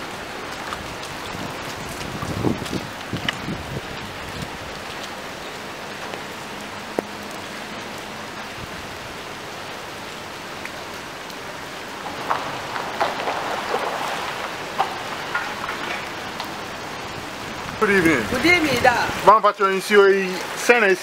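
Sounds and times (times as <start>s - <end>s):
drips and splashes: 0.0s - 21.0s
rain falling on water and pavement: 0.0s - 21.0s.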